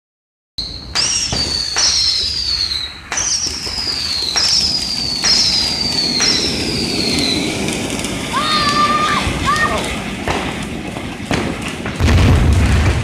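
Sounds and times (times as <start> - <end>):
firework whistles with cracks: 0.6 - 13.0
firework sparks hissing: 0.7 - 13.0.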